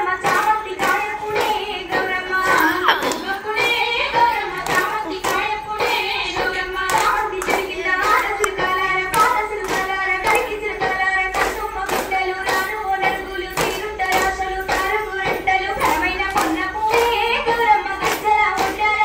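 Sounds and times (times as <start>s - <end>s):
women clapping in rhythm: 0.0s - 19.0s
women singing: 0.0s - 19.0s.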